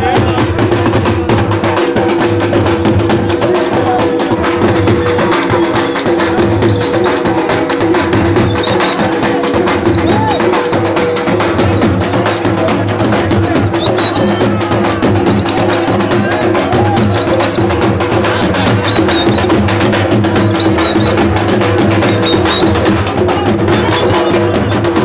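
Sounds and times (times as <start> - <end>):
drums beaten fast with sticks: 0.0 - 25.0.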